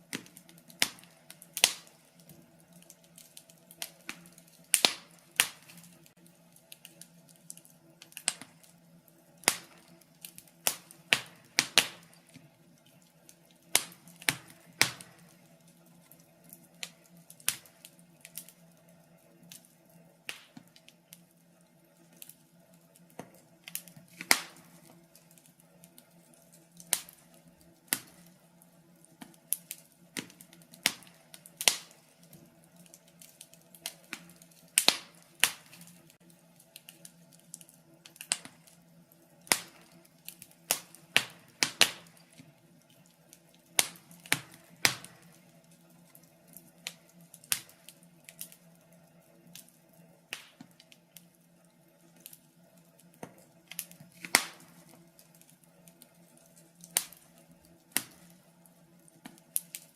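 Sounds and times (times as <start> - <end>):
faint steady hum: 0.0 - 59.9
wood fire crackling and popping: 0.0 - 59.9.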